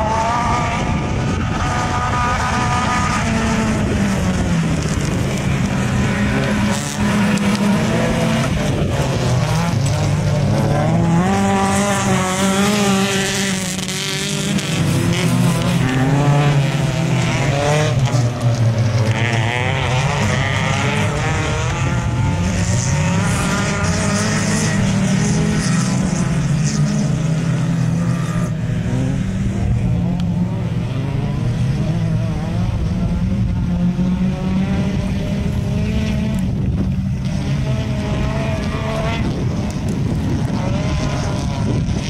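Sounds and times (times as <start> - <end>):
race car engines revving: 0.0 - 42.0.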